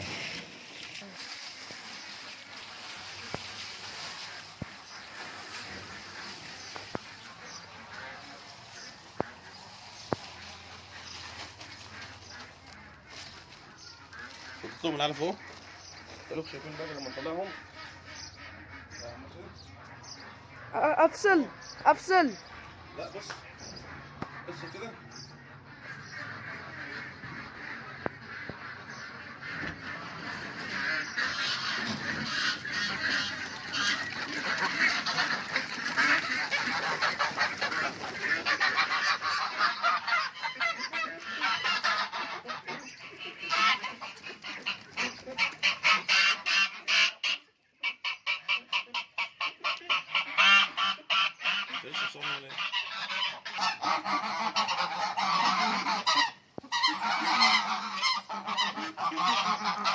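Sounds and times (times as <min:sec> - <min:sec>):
ducks calling: 0:00.0 - 0:59.9.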